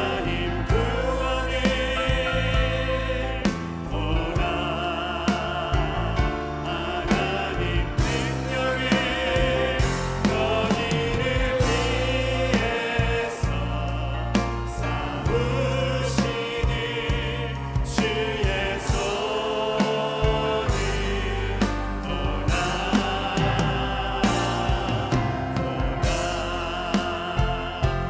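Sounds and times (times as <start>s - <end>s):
band with bass and drums: 0.0s - 28.0s
choir singing praise song: 0.0s - 28.0s.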